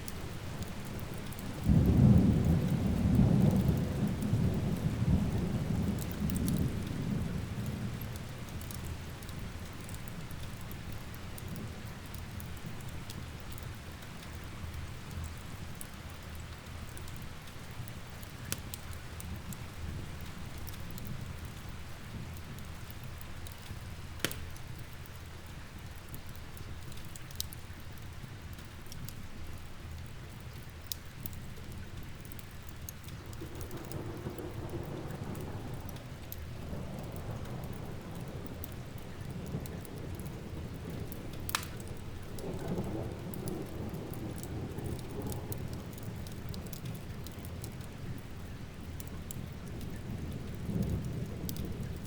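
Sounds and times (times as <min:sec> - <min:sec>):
steady rain: 0:00.0 - 0:52.0
wood fire popping and crackling: 0:00.0 - 0:52.0.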